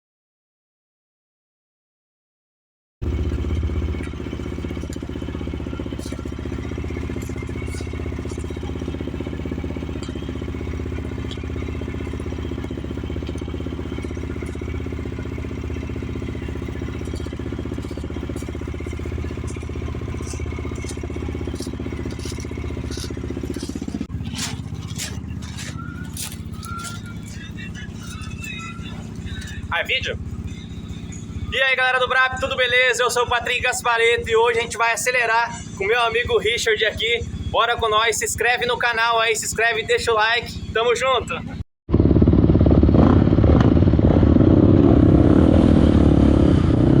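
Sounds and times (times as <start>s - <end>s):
motorcycle engine idling: 3.0s - 46.2s.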